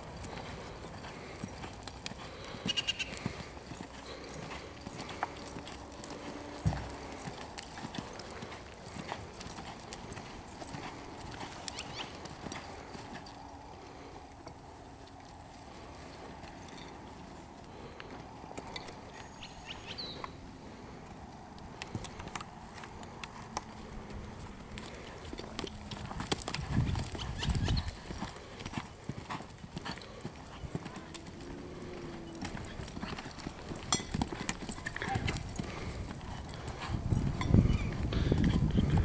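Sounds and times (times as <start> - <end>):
horse hoofbeats on dirt: 0.0 - 39.0.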